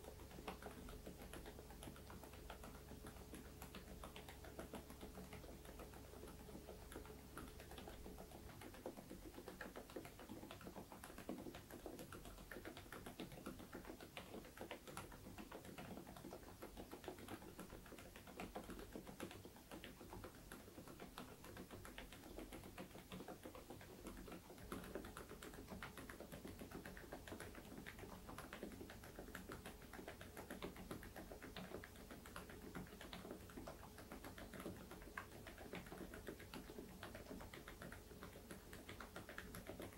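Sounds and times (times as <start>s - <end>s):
quiet mechanical keyboard typing: 0.0s - 39.9s.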